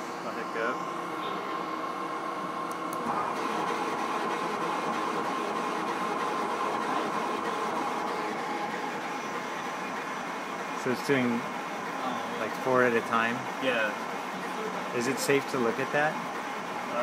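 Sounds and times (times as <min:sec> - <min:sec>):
laser cutter whirring: 0:00.0 - 0:17.0.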